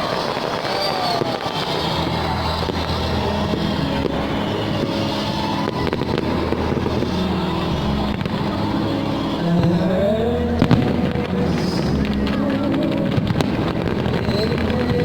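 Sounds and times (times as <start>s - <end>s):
firework whistle: 0.0s - 15.0s
fireworks crackling and banging: 0.0s - 15.0s.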